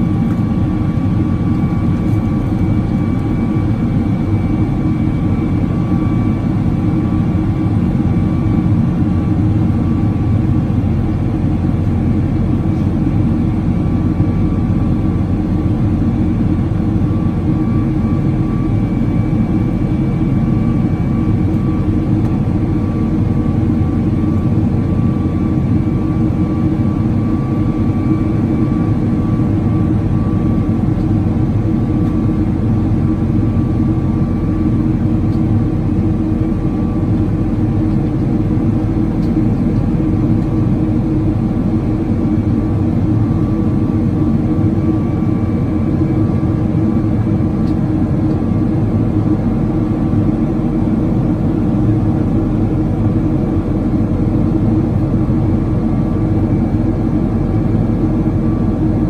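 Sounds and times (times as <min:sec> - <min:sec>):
faint high engine whine: 0:00.0 - 0:59.0
jet engine low rumble: 0:00.0 - 0:59.0.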